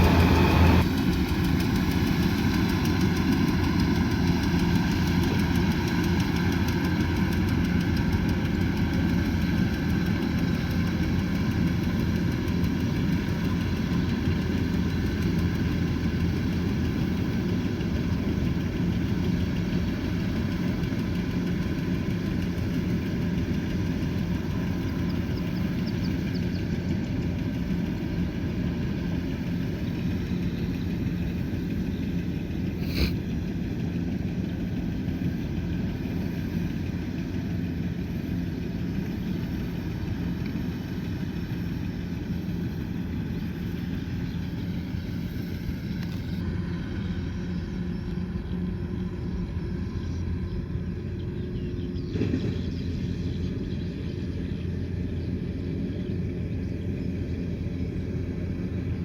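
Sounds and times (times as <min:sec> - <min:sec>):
combine harvester diesel engine: 0:00.0 - 0:59.0.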